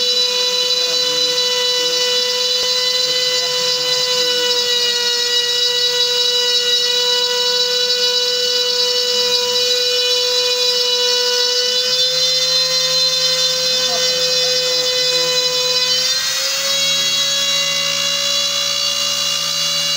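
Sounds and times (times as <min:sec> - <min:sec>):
axis motors humming: 0:00.0 - 0:19.9
router spindle high whine: 0:00.0 - 0:19.9.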